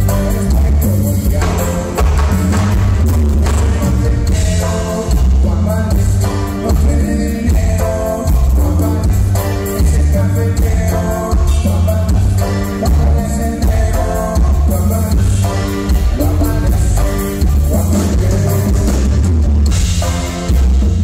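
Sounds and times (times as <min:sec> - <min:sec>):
person singing: 0:00.0 - 0:19.2
heavy bass line: 0:00.0 - 0:21.0
live latin band playing: 0:00.0 - 0:21.0.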